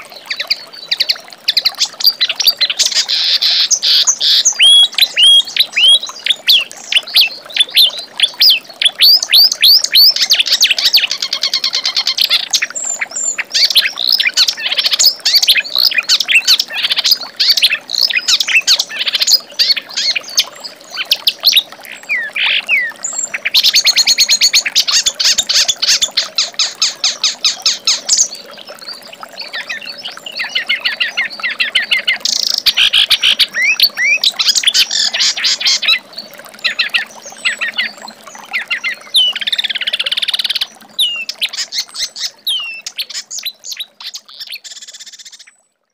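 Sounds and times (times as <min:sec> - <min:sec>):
reed warbler singing: 0:00.0 - 0:45.6.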